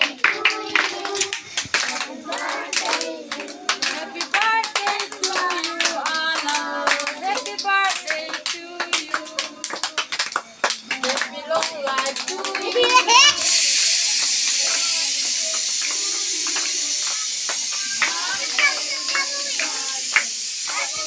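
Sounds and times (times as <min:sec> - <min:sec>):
children singing together: 0:00.0 - 0:10.1, 0:11.0 - 0:13.5, 0:15.9 - 0:21.0
hands clapping: 0:00.0 - 0:21.0.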